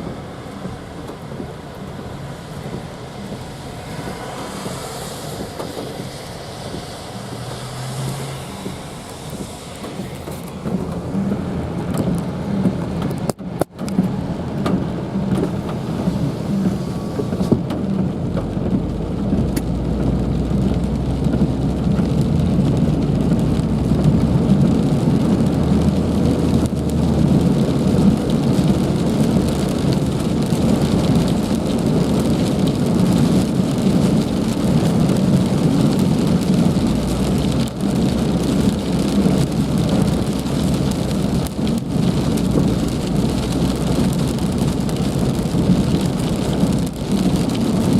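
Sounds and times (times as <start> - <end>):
heavy rain hissing: 0.0 - 13.3, 14.0 - 18.1, 18.8 - 47.9
deep rumble: 0.0 - 47.9.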